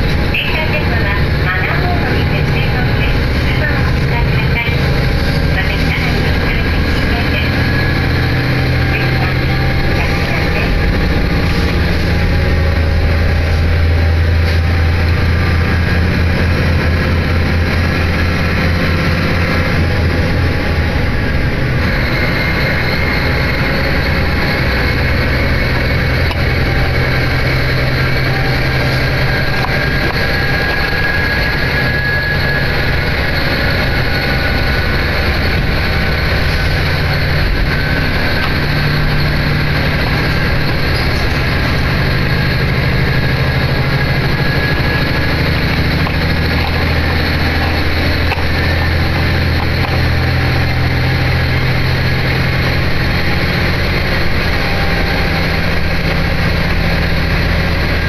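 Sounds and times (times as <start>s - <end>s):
diesel train engine drone: 0.0s - 58.0s
faint rising whine: 0.0s - 58.0s
wheels on rails: 0.0s - 58.0s.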